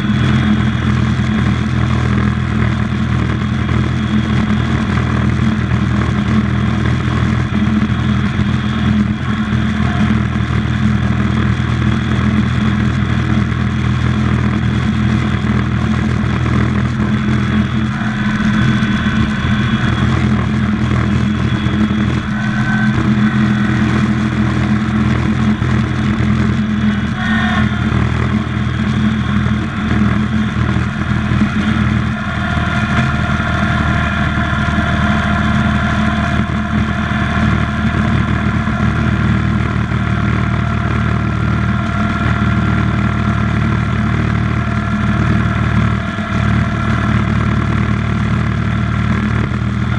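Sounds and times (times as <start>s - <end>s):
faint high whines: 0.0s - 49.9s
garden tractor engine running: 0.0s - 49.9s.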